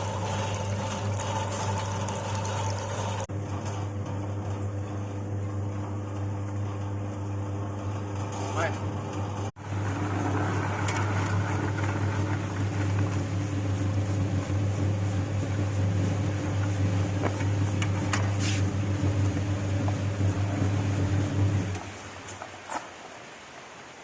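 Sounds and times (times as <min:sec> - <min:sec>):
machine motor hum: 0:00.0 - 0:22.2.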